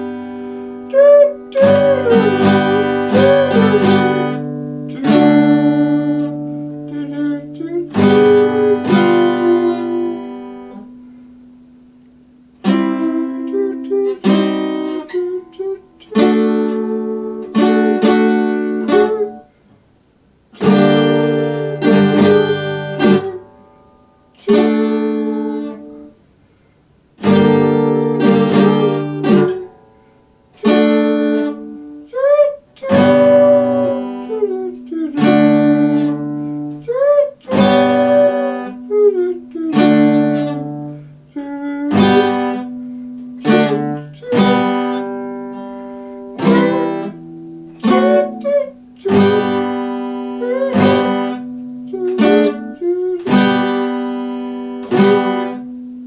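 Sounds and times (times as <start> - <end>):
acoustic guitar strumming chords: 0.0 - 19.7, 20.5 - 26.3, 27.2 - 56.0.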